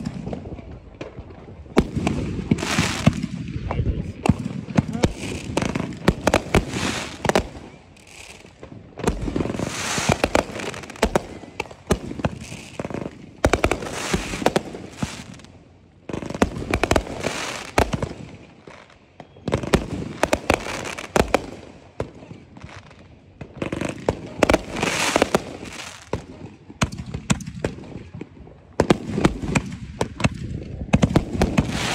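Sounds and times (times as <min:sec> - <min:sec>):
fireworks bangs: 0:00.0 - 0:31.9
fireworks crackling: 0:00.0 - 0:31.9.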